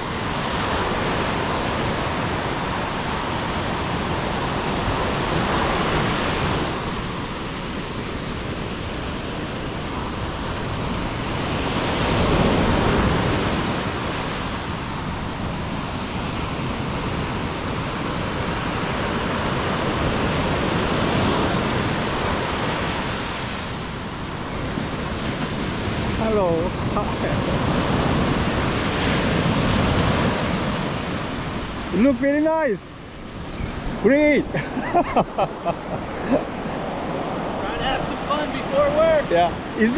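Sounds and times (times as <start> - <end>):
wind on microphone: 0.0 - 32.0, 32.9 - 39.9
ocean surf breaking: 0.0 - 39.9.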